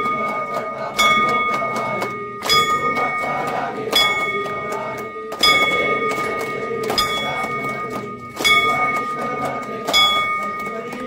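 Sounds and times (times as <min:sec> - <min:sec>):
metal bell ringing: 0:00.0 - 0:11.0.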